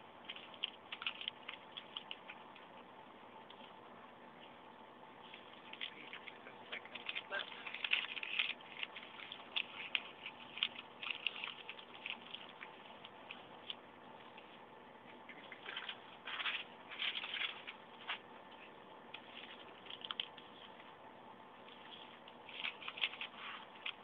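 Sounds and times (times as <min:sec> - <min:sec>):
newspaper crinkling and rustling: 0:00.2 - 0:02.9, 0:05.2 - 0:14.6, 0:15.2 - 0:21.0, 0:21.6 - 0:24.0.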